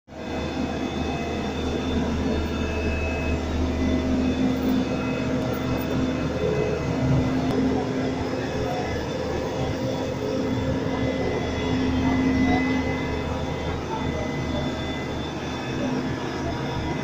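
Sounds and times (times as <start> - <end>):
heavy diesel machinery drone: 0.1 - 17.0.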